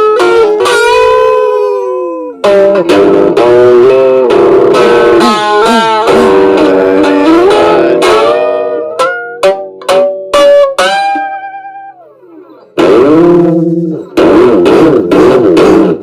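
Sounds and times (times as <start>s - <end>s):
instrumental melody over held chords: 0.0s - 16.0s.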